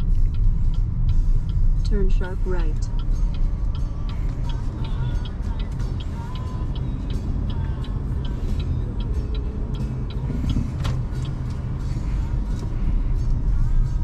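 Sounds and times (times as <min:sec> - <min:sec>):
turn signal ticking: 0:00.0 - 0:14.0
tyre and road rumble: 0:00.0 - 0:14.0.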